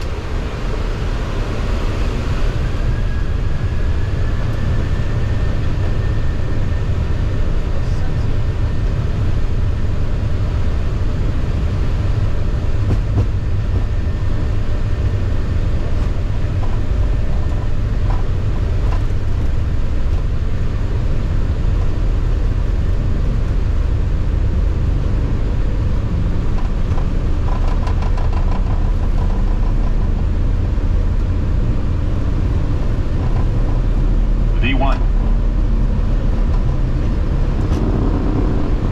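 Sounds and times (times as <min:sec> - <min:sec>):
jet engine cockpit rumble: 0:00.0 - 0:38.9.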